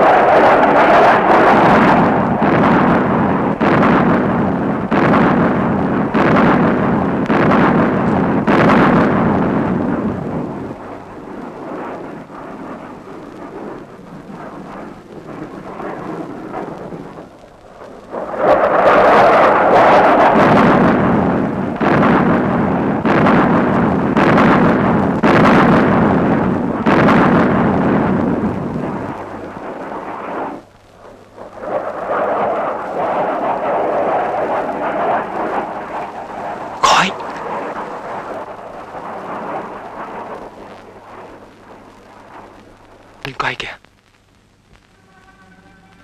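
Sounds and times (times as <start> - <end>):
explosions: 0.0 - 43.8
heavy rumble: 0.0 - 43.8.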